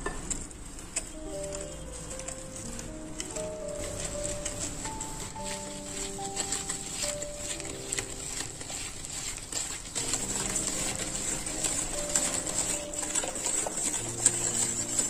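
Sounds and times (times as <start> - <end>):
whisk clicking against glass bowl: 1.0 - 15.0.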